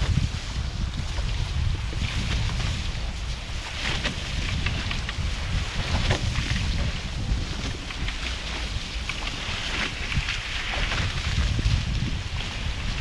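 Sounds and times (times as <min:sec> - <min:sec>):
water rushing past hulls: 0:00.0 - 0:13.0
wind noise on microphone: 0:00.0 - 0:13.0.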